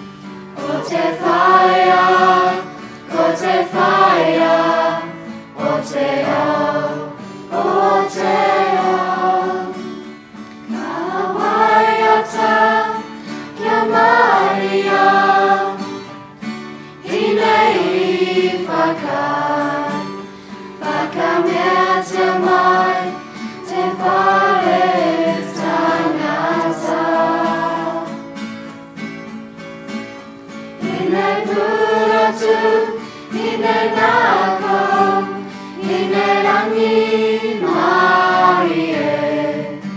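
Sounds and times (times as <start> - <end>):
children's choir singing: 0.0 - 10.1, 10.7 - 16.2, 17.0 - 28.4, 30.8 - 39.9
guitar: 0.0 - 39.9.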